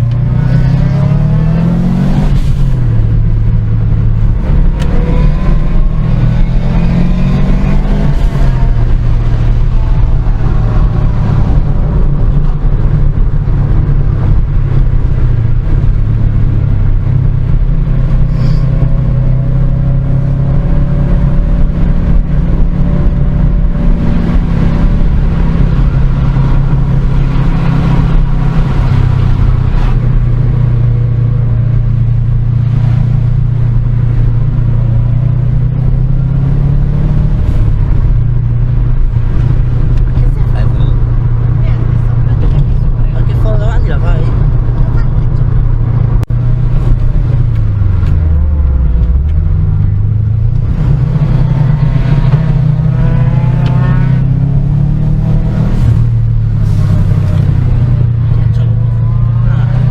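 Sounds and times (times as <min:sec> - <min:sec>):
car engine running: 0:00.0 - 0:59.9
road noise: 0:00.0 - 0:59.9.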